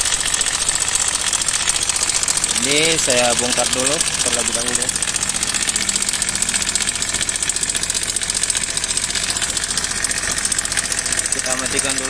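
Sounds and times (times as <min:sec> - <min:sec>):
motorcycle engine idling: 0:00.0 - 0:12.0
rapid metallic ticking: 0:00.0 - 0:12.0.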